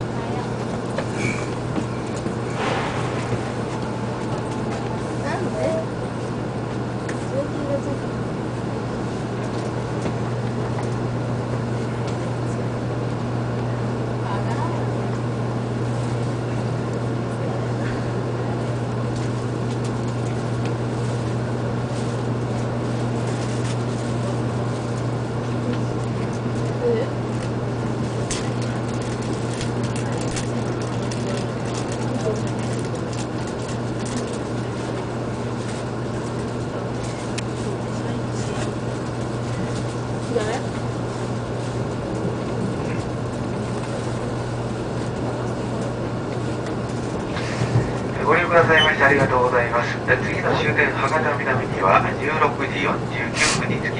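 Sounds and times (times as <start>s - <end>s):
train interior hum and rumble: 0.0s - 53.9s.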